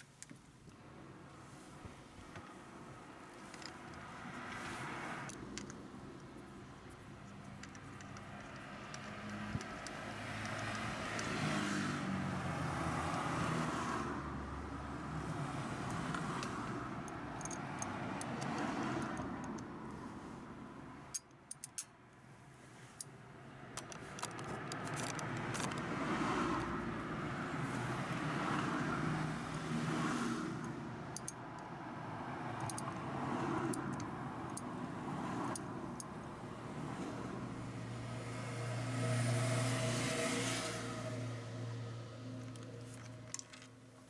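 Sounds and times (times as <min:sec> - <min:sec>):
motor vehicle: 0:00.0 - 0:44.0.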